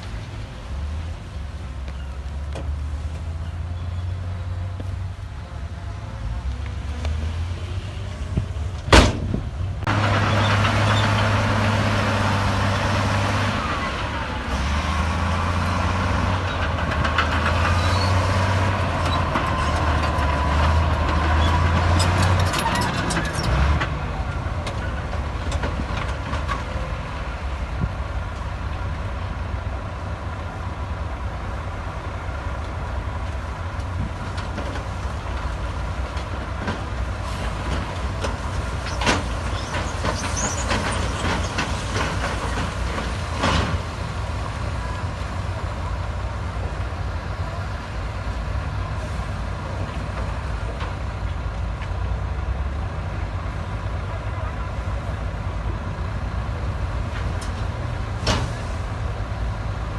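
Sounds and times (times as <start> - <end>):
diesel earthmoving machinery rumbling: 0.0 - 59.9.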